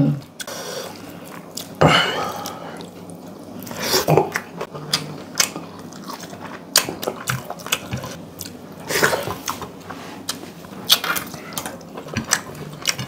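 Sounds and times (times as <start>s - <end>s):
chewing and mouth clicks: 1.2s - 13.0s.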